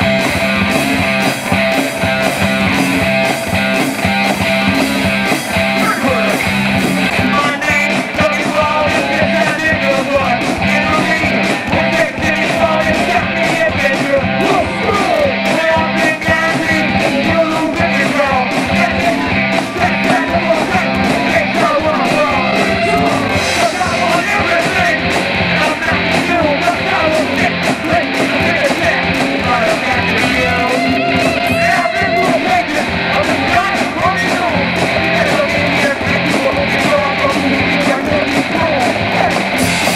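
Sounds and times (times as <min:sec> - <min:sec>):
drum kit beat: 0:00.0 - 0:39.9
rock band playing: 0:00.0 - 0:39.9
person singing: 0:05.3 - 0:39.9.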